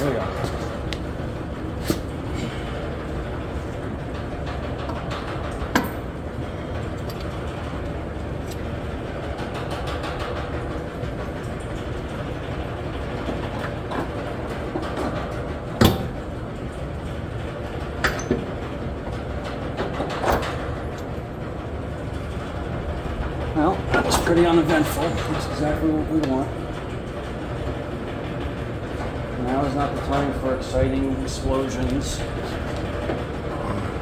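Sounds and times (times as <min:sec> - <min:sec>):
low rumble of workshop: 0:00.0 - 0:34.0.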